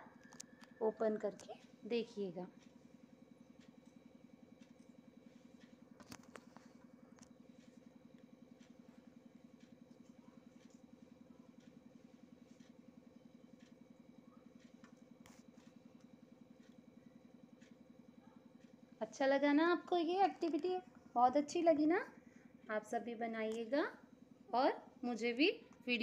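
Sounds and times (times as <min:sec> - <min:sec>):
faint mechanical hum with pulse: 0:00.0 - 0:26.0.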